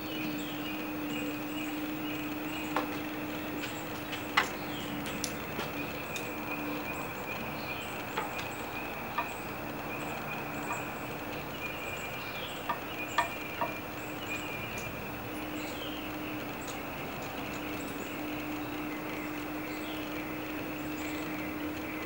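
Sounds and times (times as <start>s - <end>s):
high insect drone: 0.0s - 22.0s
low steady hum: 0.0s - 22.0s.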